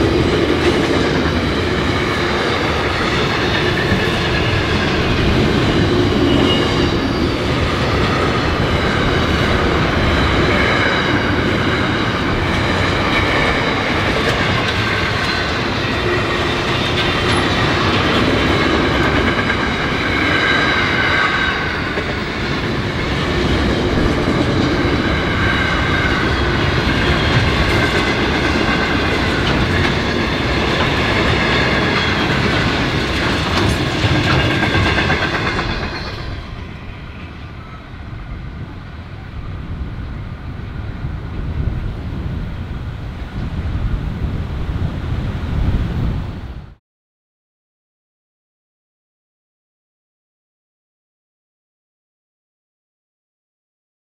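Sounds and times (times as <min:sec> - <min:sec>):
freight train wheels rumbling: 0:00.0 - 0:46.8.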